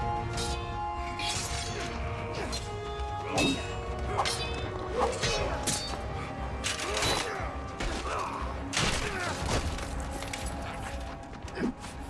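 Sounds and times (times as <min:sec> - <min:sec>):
dramatic film score: 0:00.0 - 0:12.0.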